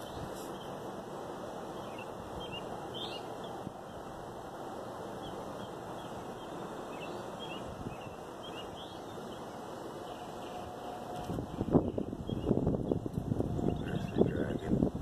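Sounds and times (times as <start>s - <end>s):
steady outdoor background noise: 0.0s - 15.0s.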